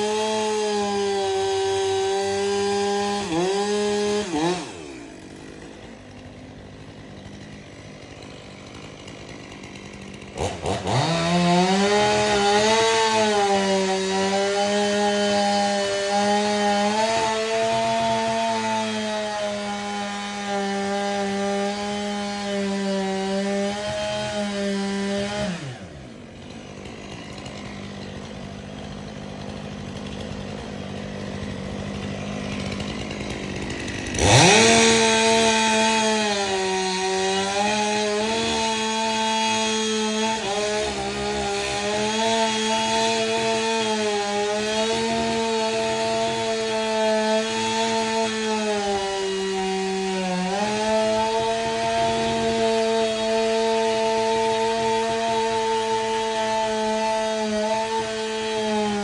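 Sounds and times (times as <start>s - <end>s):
chainsaw cutting wood: 0.0s - 59.0s
chainsaw idling: 0.0s - 59.0s.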